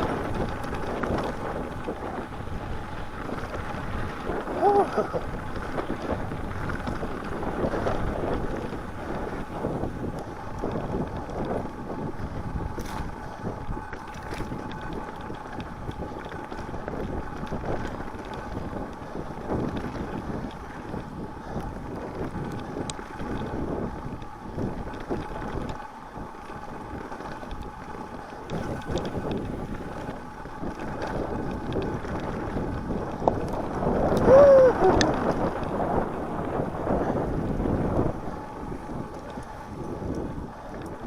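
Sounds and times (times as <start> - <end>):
mountain bike rolling and rattling: 0.0 - 41.0
wind buffeting microphone: 0.0 - 41.0.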